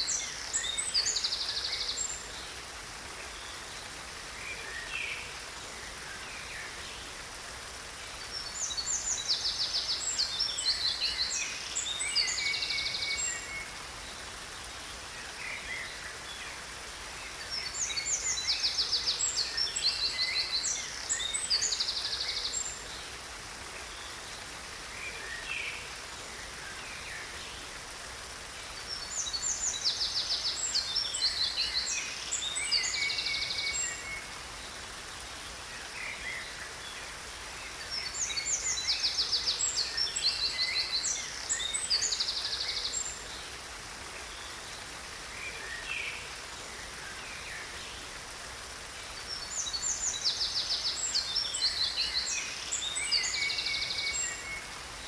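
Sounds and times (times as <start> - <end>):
songbirds trilling and chirping: 0.0 - 55.0
waterfall hissing: 0.0 - 55.0.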